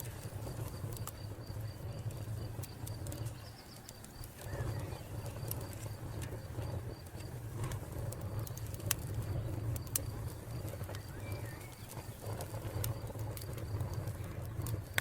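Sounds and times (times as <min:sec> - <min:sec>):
crickets chirping: 0:00.0 - 0:14.9
wood fire crackling: 0:00.0 - 0:15.0.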